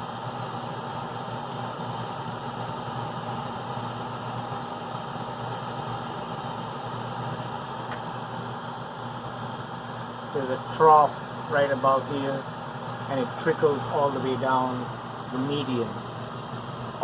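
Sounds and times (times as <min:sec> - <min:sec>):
gas furnace humming: 0:00.0 - 0:17.0
rush of air from blower: 0:00.0 - 0:17.0.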